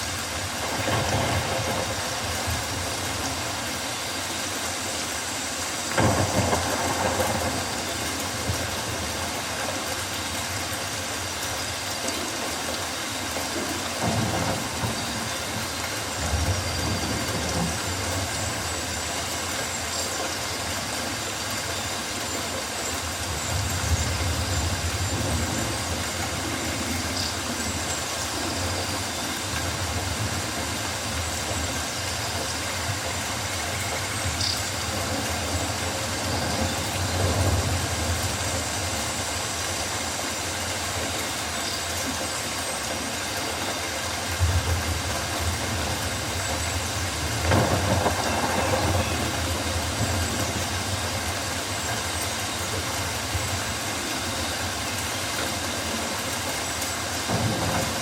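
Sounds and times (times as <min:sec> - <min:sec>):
rainforest hiss: 0:00.0 - 0:58.0.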